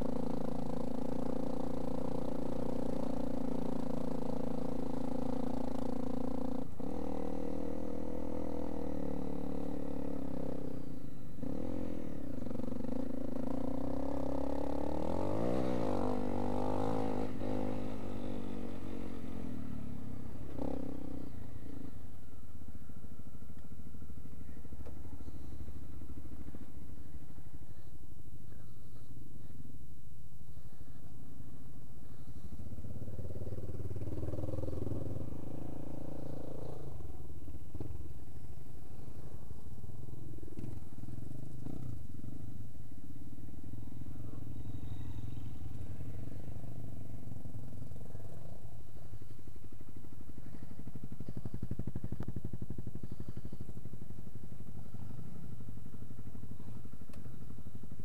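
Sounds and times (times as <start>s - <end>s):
motorcycle engines running: 0.0s - 58.0s.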